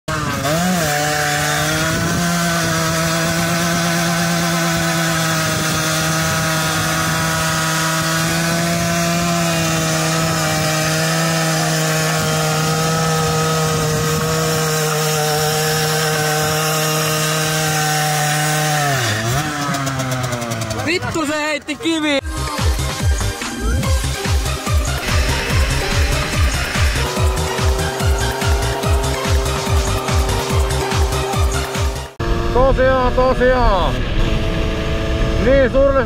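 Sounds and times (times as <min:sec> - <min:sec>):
moped engine at high revs: 0:00.1 - 0:36.0.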